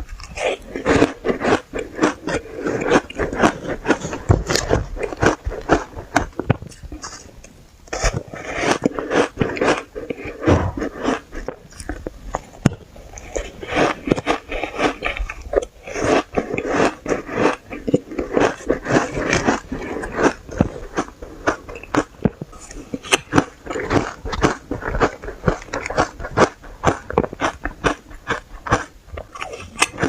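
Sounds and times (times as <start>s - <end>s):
chewing crunchy shaved ice: 0.0s - 7.3s, 7.9s - 30.0s.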